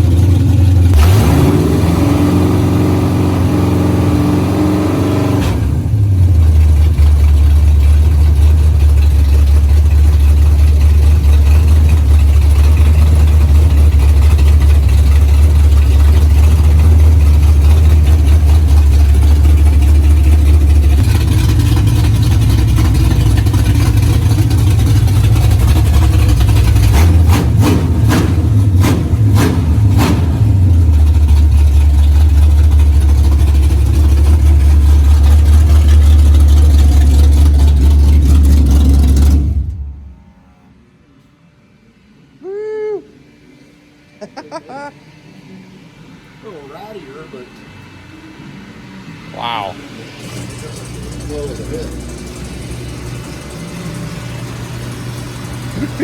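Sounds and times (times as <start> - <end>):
car engine running loud: 0.0 - 40.4, 44.2 - 56.0.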